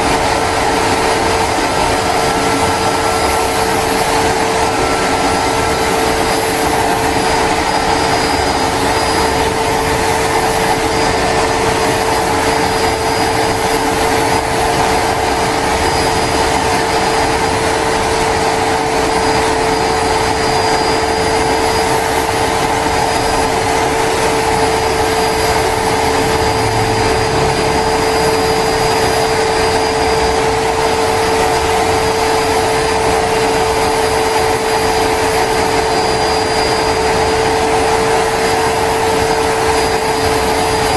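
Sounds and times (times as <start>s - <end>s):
jet engine whine and hiss: 0.0s - 40.9s.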